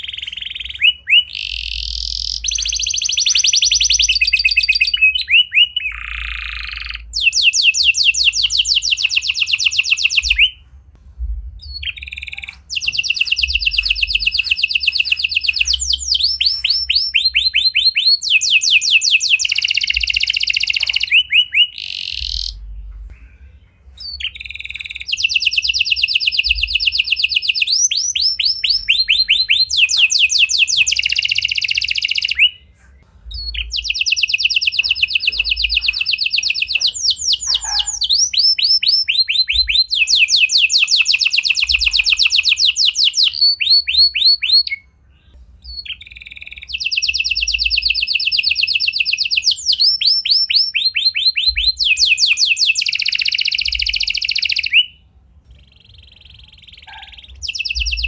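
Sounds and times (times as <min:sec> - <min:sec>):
canary singing trills: 0:00.0 - 0:10.7, 0:11.6 - 0:58.0.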